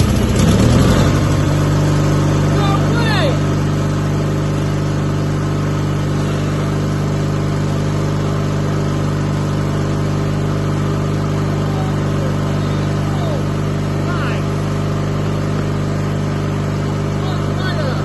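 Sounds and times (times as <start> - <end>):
riding mower engine running: 0.0 - 18.0.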